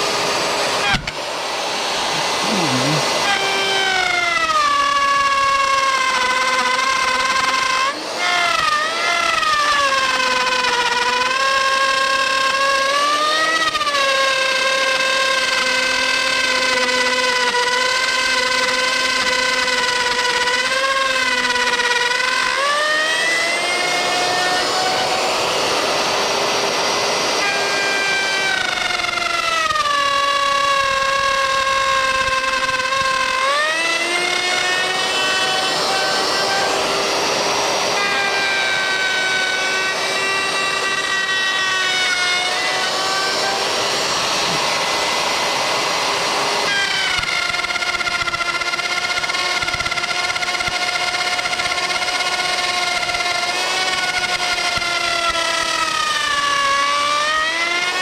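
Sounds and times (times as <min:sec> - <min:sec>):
electric router high whine: 0:00.0 - 0:58.0
router bit cutting wood: 0:00.0 - 0:58.0.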